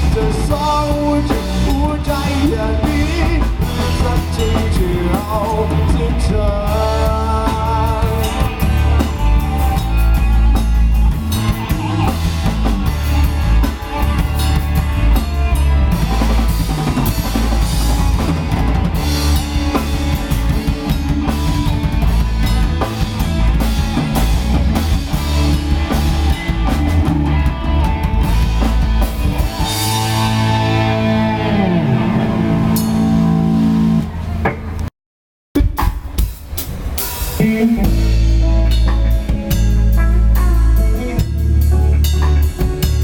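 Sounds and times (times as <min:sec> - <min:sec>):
drum kit playing a steady beat: 0:00.0 - 0:34.0, 0:35.5 - 0:43.0
bass and other instruments: 0:00.0 - 0:34.9, 0:35.5 - 0:43.0.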